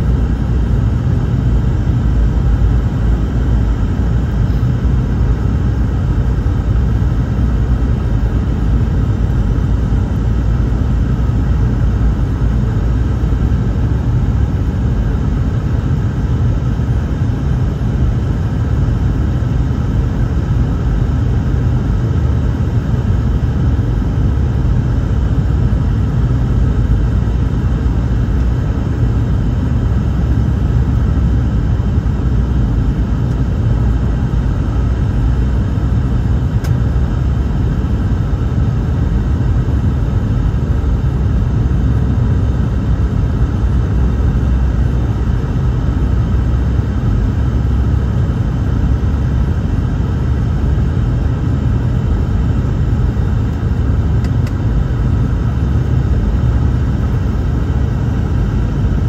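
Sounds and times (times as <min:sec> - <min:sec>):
faint steady hum: 0:00.0 - 0:59.0
jet engines and rushing air: 0:00.0 - 0:59.0.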